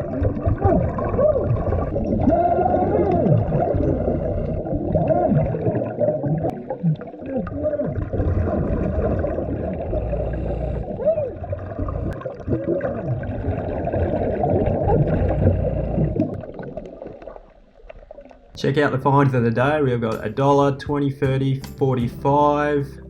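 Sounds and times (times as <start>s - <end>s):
air bubbles gurgling underwater: 0.0s - 18.6s
watery wash: 0.0s - 18.6s.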